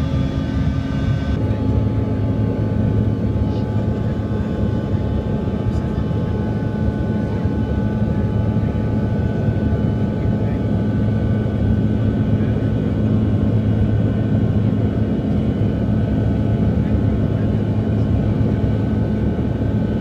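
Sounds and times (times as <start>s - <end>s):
jet engine hum: 0.0s - 20.0s.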